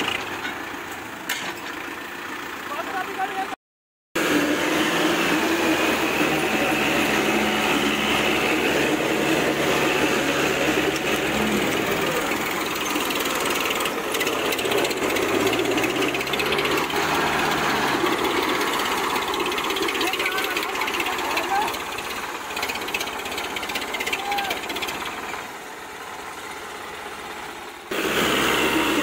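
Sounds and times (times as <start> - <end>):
tractor diesel engines clattering: 0.0 - 3.6, 4.2 - 29.0.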